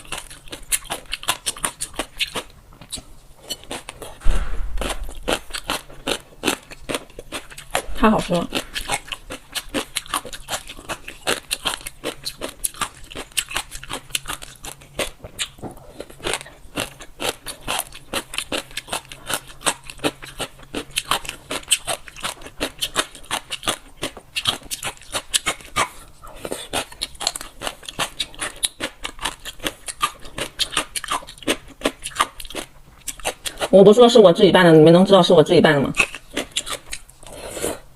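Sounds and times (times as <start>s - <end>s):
crunchy chewing: 0.0s - 33.8s, 36.0s - 37.9s.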